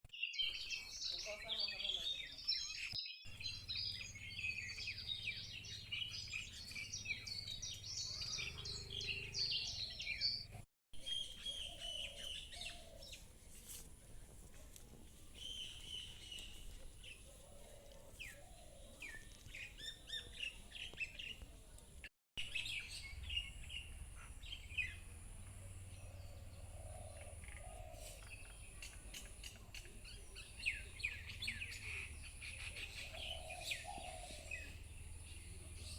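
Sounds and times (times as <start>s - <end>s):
small birds chirping: 0.2s - 35.9s.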